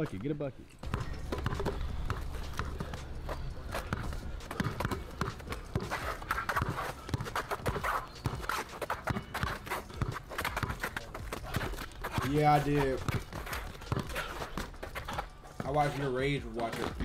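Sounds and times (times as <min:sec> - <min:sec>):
basketball bouncing: 0:00.8 - 0:17.0.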